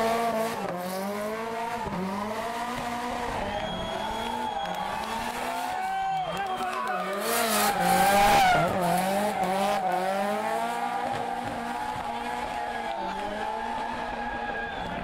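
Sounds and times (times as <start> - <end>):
car engine revving hard: 0.0 - 5.9, 7.0 - 14.4.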